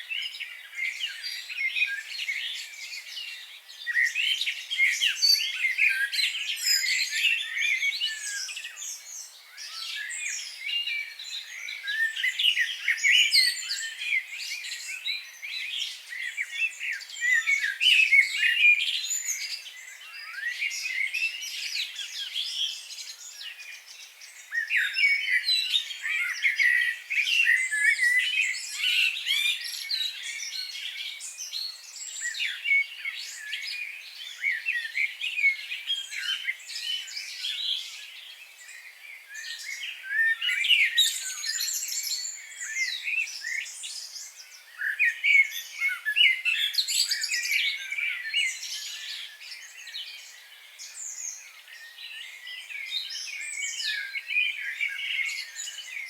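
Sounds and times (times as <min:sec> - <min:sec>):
birds chirping and whistling: 0:00.1 - 0:56.0.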